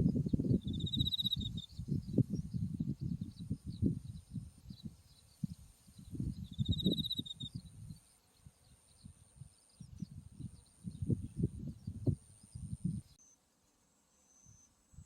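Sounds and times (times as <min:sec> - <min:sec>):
wind buffeting microphone: 0:00.0 - 0:08.0, 0:09.0 - 0:13.1
insects trilling and chirping: 0:00.0 - 0:15.0.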